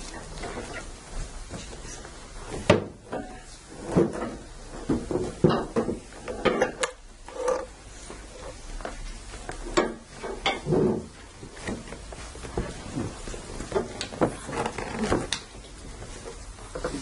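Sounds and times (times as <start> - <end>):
wooden chairs being moved: 0.0 - 17.0.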